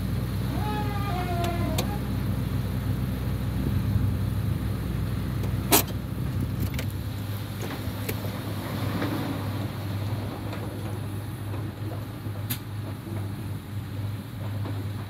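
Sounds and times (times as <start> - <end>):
heavy diesel engines humming: 0.0 - 15.0.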